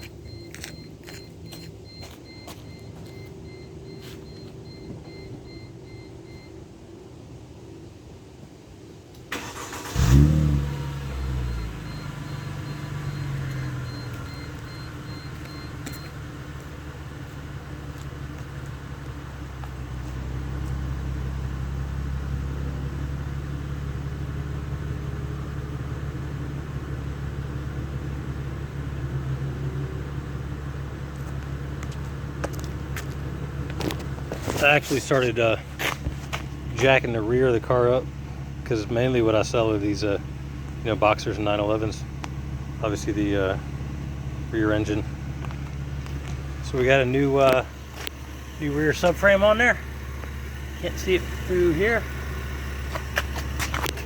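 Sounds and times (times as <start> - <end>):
car warning beeping: 0.0 - 6.7, 9.3 - 25.8, 26.4 - 54.0
car engine starting and idling: 0.0 - 54.0.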